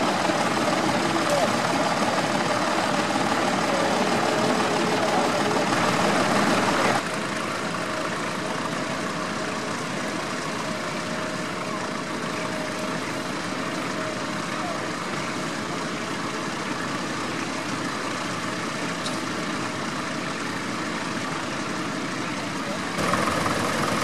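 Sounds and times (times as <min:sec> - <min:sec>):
tractor engines running: 0:00.0 - 0:24.0.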